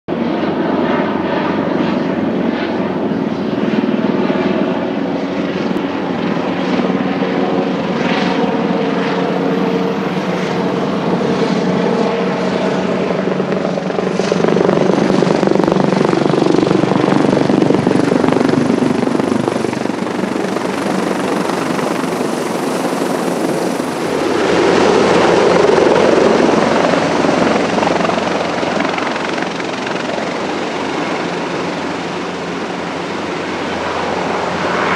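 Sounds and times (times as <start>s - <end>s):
helicopter turbine and rotor noise: 0.1s - 34.9s.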